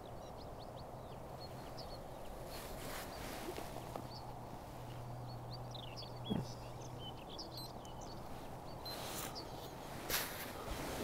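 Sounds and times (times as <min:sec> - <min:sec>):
songbird twittering: 0:00.0 - 0:10.7.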